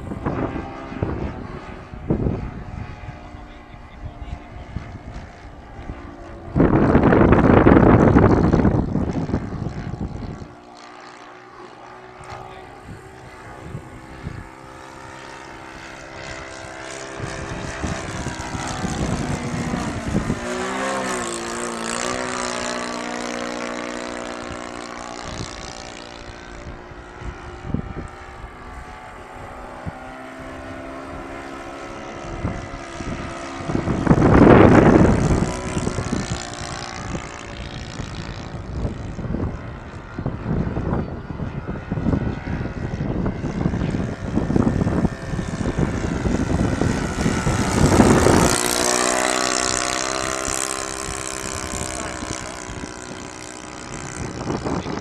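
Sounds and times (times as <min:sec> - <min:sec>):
model airplane engine droning: 0:00.0 - 0:55.0
wind buffeting microphone: 0:00.0 - 0:55.0.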